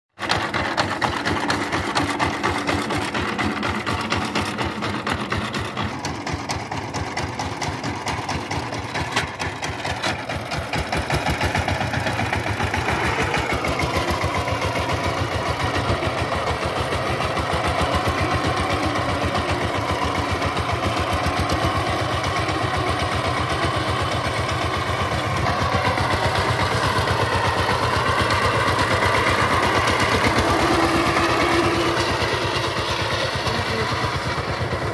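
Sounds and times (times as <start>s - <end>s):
diesel engine chugging: 0.2s - 34.9s.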